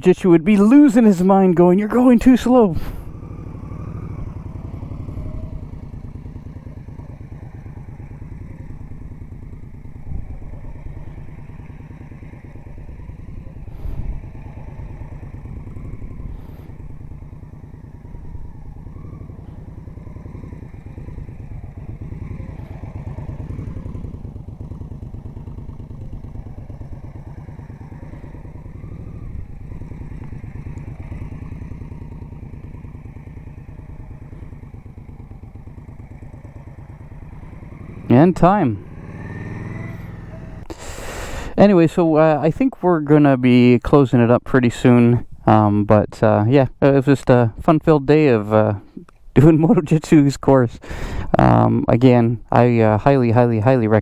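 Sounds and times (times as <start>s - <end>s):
motorcycle engine at low revs: 0.0s - 54.0s.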